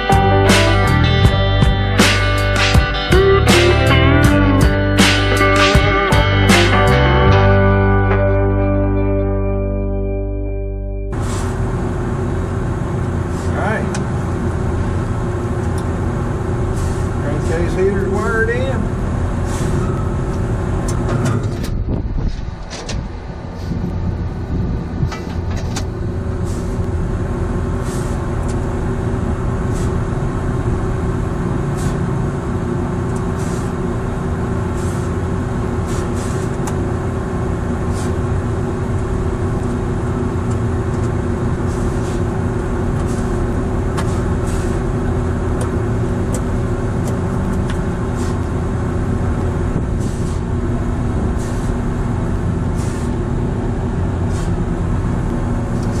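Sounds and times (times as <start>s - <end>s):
compressor and fans humming: 11.2s - 56.0s.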